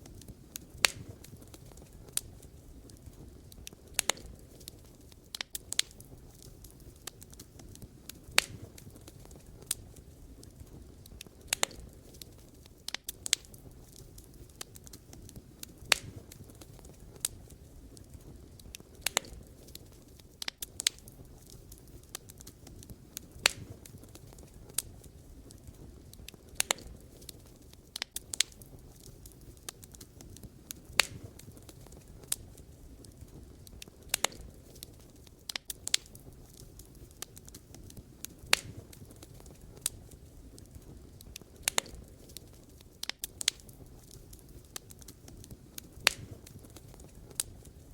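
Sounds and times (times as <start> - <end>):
firewood crackling and popping: 0.0 - 47.9
low rumble of flame: 0.0 - 47.9.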